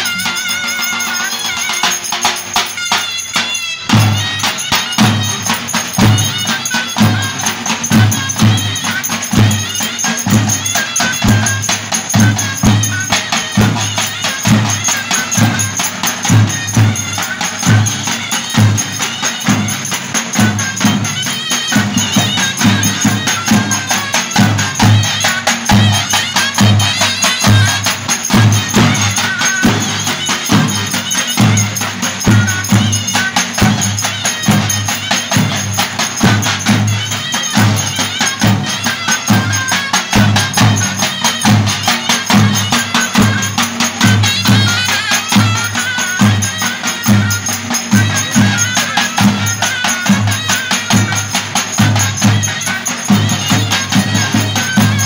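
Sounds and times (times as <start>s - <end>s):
drums beaten in dance rhythm: 0.0s - 55.0s.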